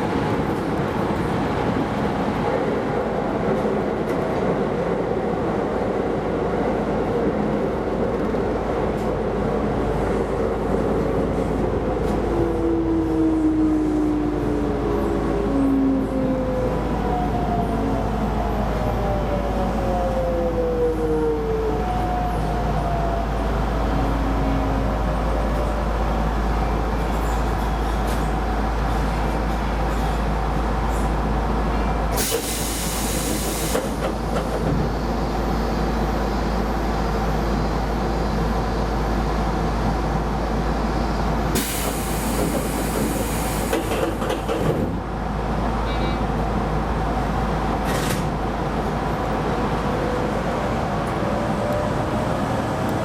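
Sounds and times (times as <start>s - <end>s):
electric train rolling on rails: 0.0s - 53.0s.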